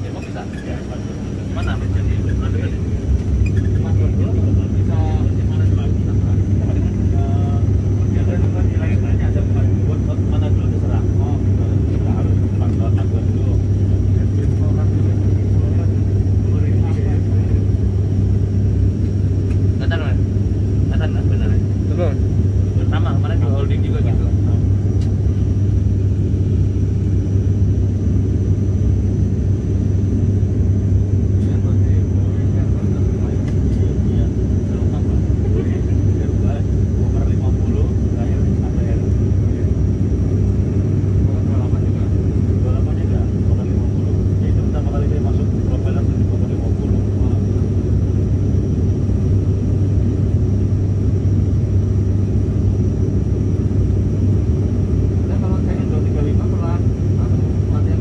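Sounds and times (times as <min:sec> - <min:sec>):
propeller engine drone: 0:00.0 - 0:58.0.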